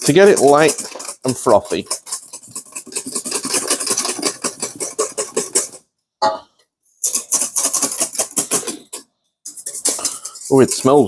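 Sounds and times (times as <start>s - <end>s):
whisk beating in metal bowl: 0.0s - 5.8s, 7.0s - 11.0s.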